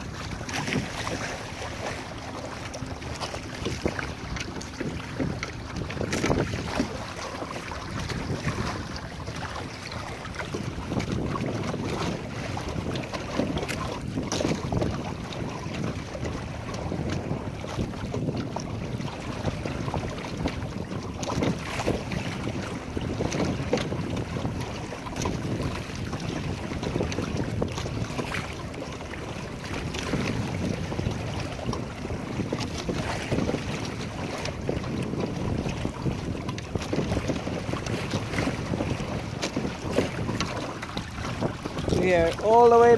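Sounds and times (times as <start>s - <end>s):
water slapping against a hull: 0.0s - 42.9s
wind on microphone: 0.0s - 42.9s.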